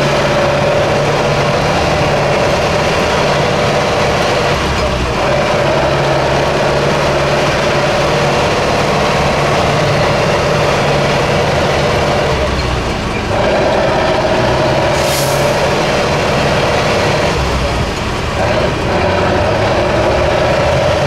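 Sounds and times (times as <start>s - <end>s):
truck engine running hard: 0.0s - 21.0s.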